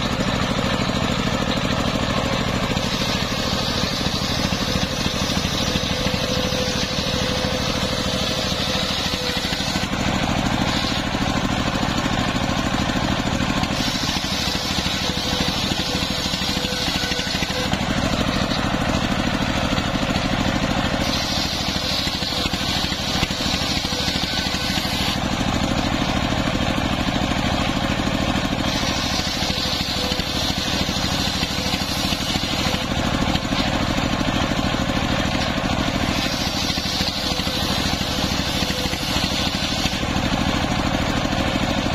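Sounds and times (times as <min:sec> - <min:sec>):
saw blade cutting hiss: 0:00.0 - 0:26.3, 0:28.3 - 0:40.8
engine drone: 0:00.0 - 0:41.9.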